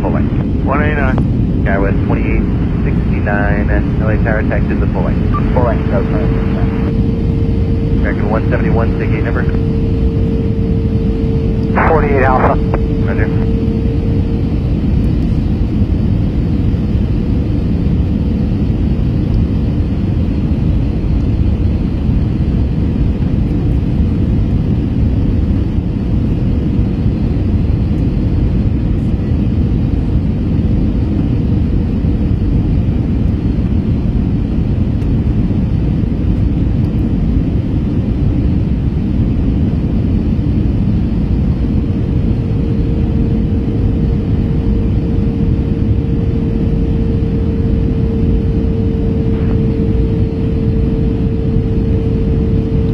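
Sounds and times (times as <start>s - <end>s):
airliner cabin rumble: 0.0s - 52.9s
faint steady hum: 0.0s - 52.9s.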